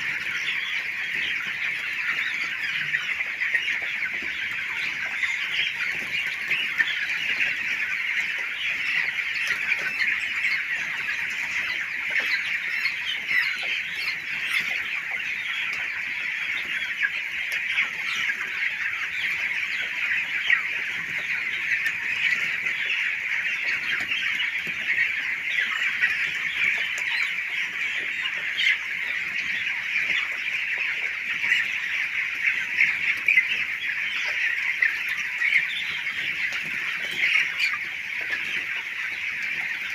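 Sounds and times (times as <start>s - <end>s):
chickens cheeping and clucking: 0.0s - 39.9s.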